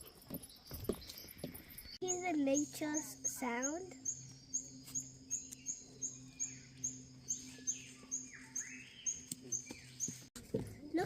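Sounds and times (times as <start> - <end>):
sweeping bird calls: 0.0 - 10.3.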